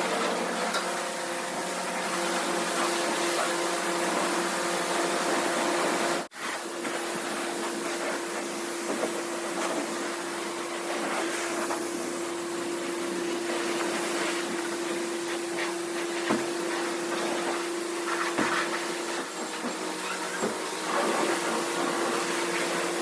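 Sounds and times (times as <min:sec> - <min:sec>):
pump hum: 0:00.0 - 0:23.0.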